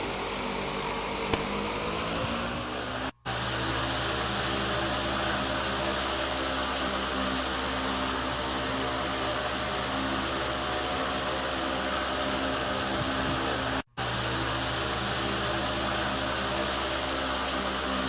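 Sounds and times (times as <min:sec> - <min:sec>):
wall fan running: 0:00.0 - 0:18.0.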